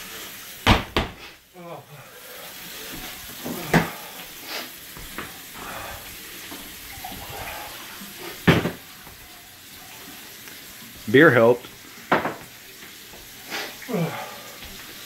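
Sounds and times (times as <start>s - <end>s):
faucet running into sink: 2.2s - 15.0s.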